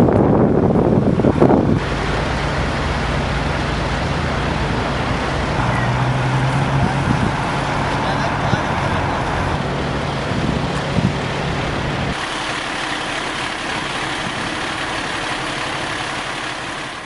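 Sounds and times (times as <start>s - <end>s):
engine idling: 0.0s - 17.0s
road traffic noise: 0.0s - 17.0s.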